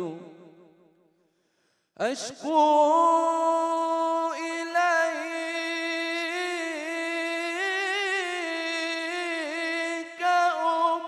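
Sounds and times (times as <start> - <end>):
man singing unaccompanied: 0.0 - 0.6, 2.0 - 11.0.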